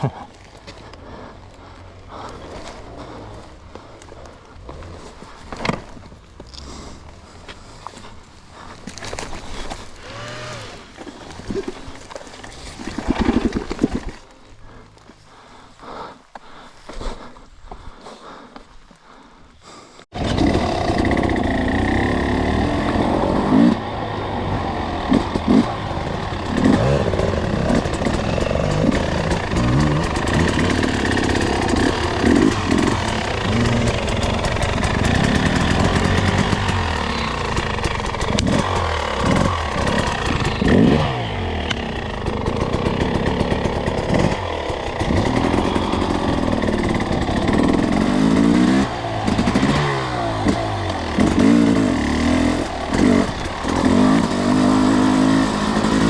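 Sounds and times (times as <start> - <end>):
dirt bike engine revving: 0.0 - 8.0, 8.6 - 11.9, 20.1 - 56.0.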